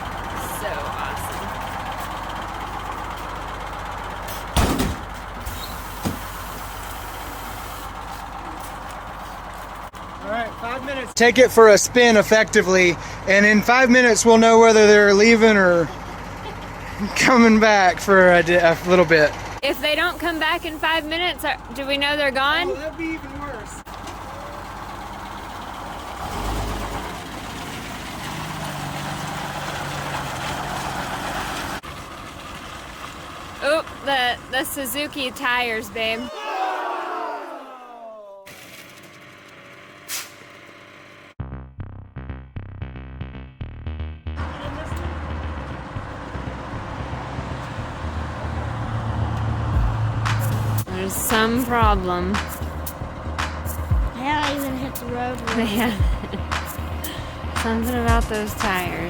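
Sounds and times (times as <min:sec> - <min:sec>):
diesel bus engine idling: 0:00.0 - 0:38.1, 0:44.4 - 0:59.0.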